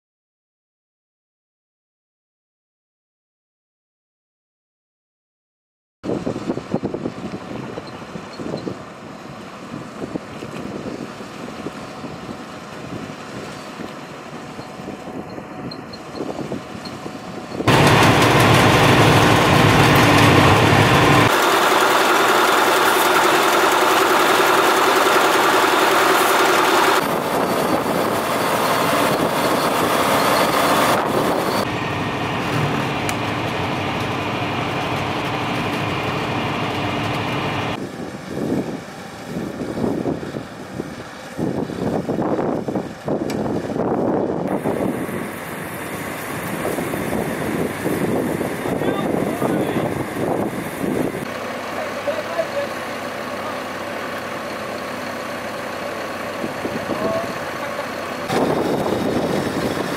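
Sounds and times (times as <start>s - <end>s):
tractor and harvester machinery: 6.1s - 59.9s.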